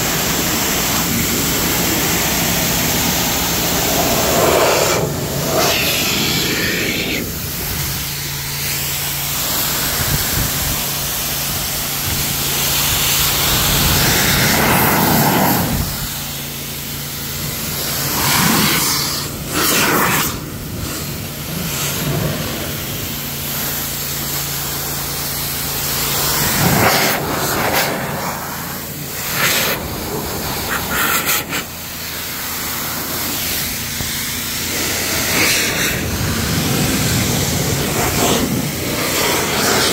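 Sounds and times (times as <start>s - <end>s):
blower air blast hissing: 0.0s - 39.9s
motor hum: 0.0s - 39.9s.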